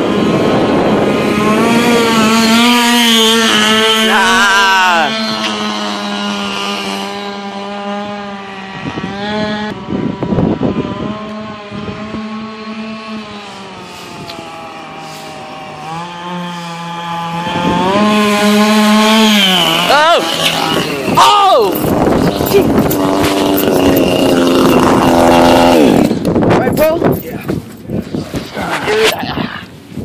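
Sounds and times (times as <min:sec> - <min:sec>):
motor scooter engine: 0:00.0 - 0:26.7.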